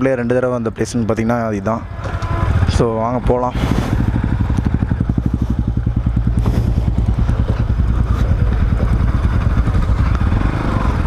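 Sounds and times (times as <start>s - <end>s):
motorcycle engine riding off: 1.8s - 11.0s.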